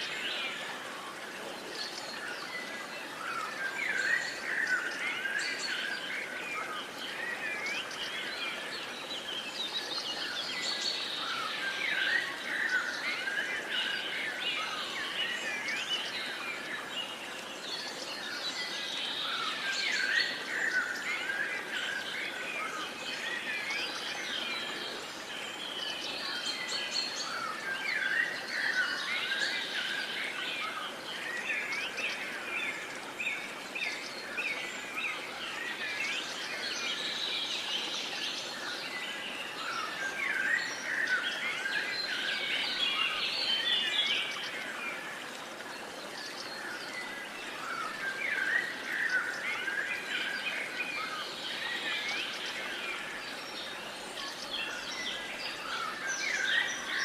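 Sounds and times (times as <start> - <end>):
songbirds chorus: 0.0 - 57.0
steady outdoor hiss: 0.0 - 57.0.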